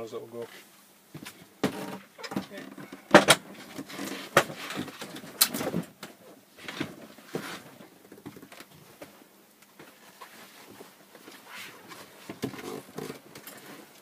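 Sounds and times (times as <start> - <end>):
soft bumps and rustles: 0.3 - 14.0.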